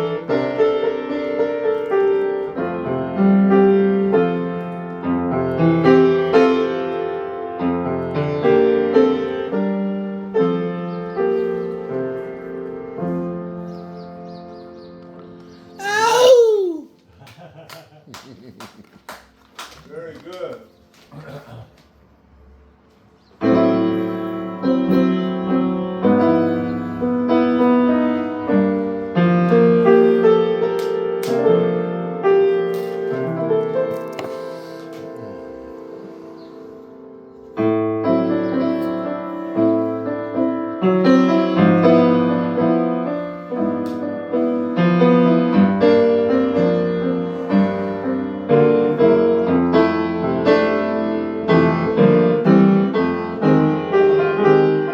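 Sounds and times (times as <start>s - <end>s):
slow piano notes and chords: 0.0s - 15.8s, 22.5s - 54.9s.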